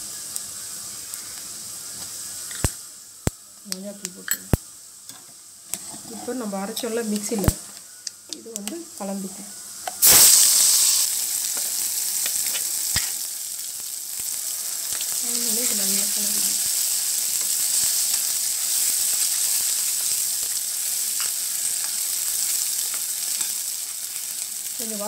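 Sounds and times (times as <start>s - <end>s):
paste sizzling in hot oil: 0.0s - 25.0s.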